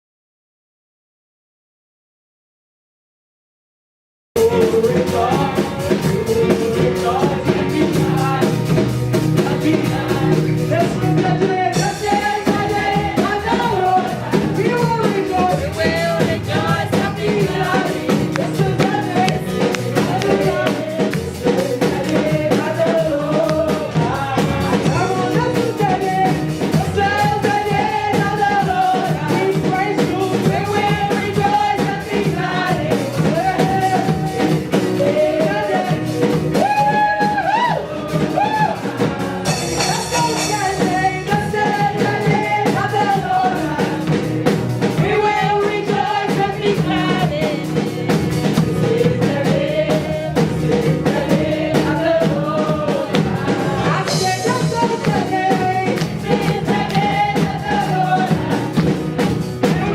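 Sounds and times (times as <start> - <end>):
music with singing: 4.4 - 59.9.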